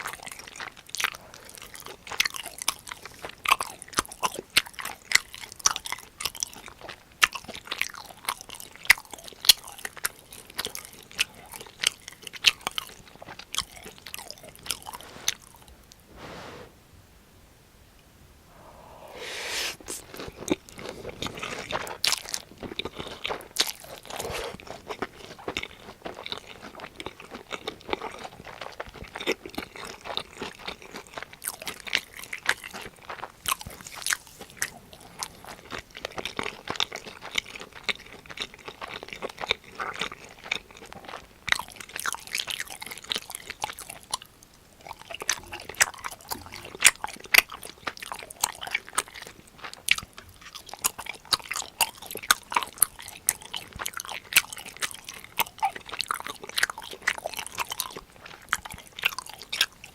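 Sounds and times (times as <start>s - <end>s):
crunchy chewing: 0.0s - 16.4s, 18.5s - 59.9s.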